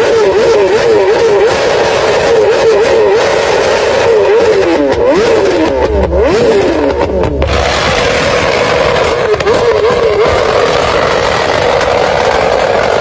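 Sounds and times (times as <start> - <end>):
motorcycle engine hitting rev limiter: 0.0 - 13.0.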